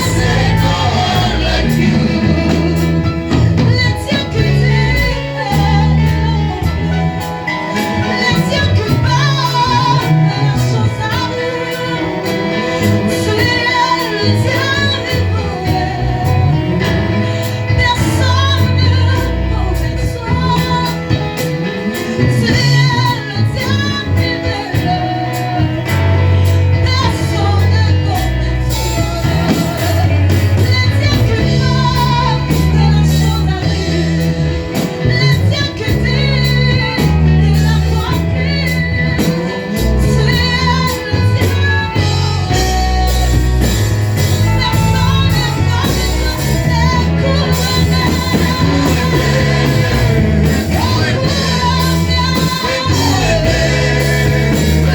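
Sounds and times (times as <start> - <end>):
gospel singing over a band: 0.0 - 54.9.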